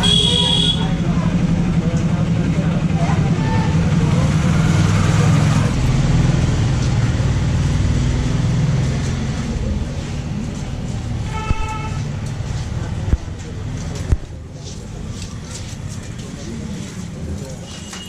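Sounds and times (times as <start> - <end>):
vehicle engine rumbling: 0.0 - 17.8
street traffic: 0.0 - 18.0.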